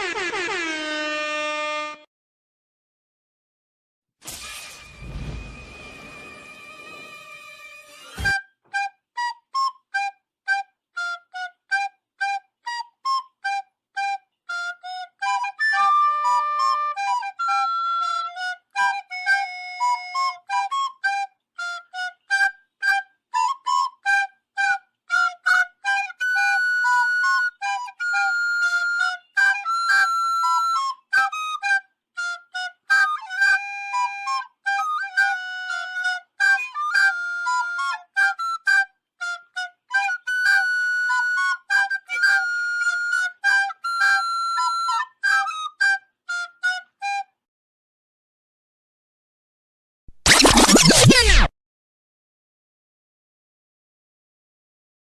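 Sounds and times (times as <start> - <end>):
solo flute-like melody: 0.0 - 2.1, 4.7 - 47.5.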